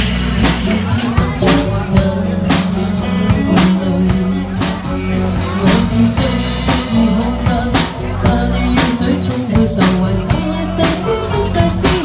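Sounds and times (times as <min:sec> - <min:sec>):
live band playing pop song: 0:00.0 - 0:12.0.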